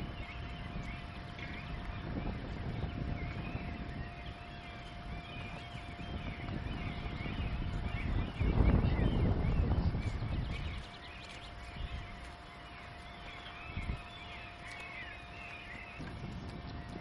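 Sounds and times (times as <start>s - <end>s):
pony moving through long grass: 0.0s - 17.0s
small birds singing: 0.0s - 17.0s.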